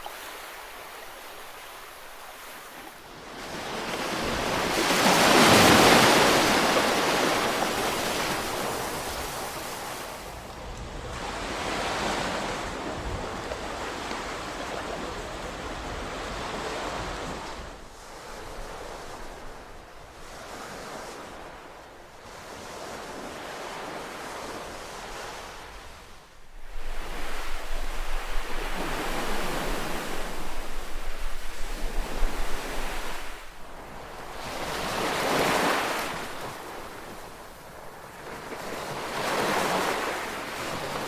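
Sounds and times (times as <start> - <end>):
ocean waves breaking on a beach: 0.0 - 41.0.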